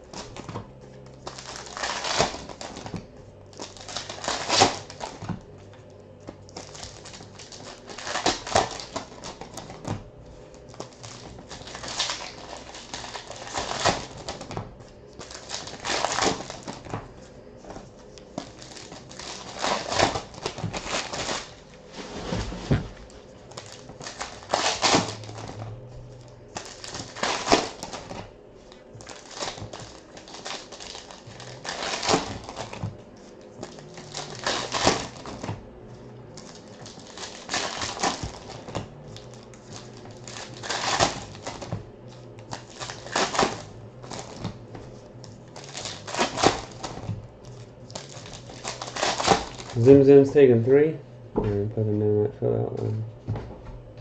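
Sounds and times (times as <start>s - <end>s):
card wrappers crinkling: 0.0s - 50.4s.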